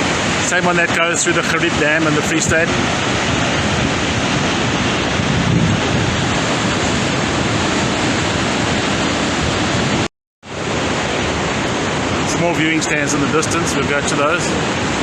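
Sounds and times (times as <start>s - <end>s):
waterfall roaring: 0.0s - 15.0s
wind buffeting microphone: 1.4s - 15.0s.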